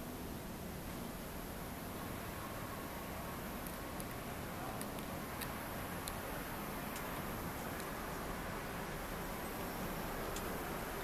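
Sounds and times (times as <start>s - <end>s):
night ambience hiss: 0.0s - 11.0s.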